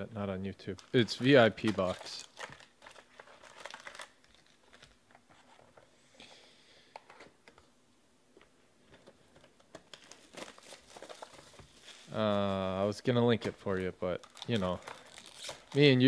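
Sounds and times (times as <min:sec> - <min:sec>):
soft rustle of card packs: 0:00.4 - 0:07.6, 0:08.3 - 0:16.0.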